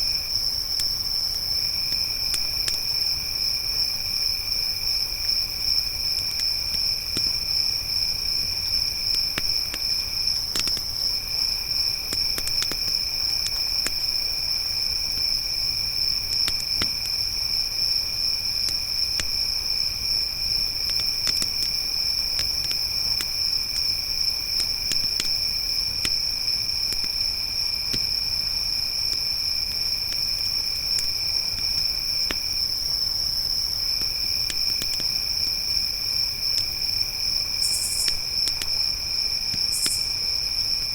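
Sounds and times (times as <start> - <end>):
crickets trilling: 0.0 - 40.9
lower-pitched cricket: 0.0 - 40.9
campfire crackling and popping: 0.6 - 3.1, 5.2 - 40.1.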